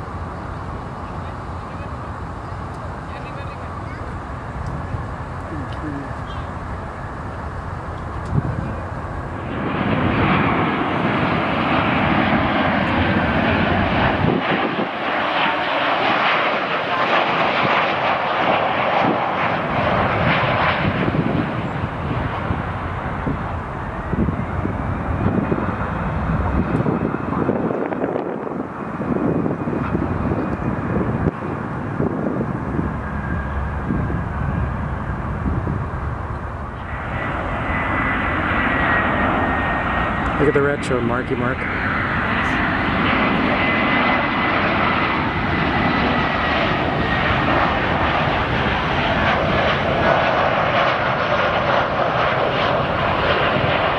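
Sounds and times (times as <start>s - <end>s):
jet engines roaring past: 0.0s - 53.9s.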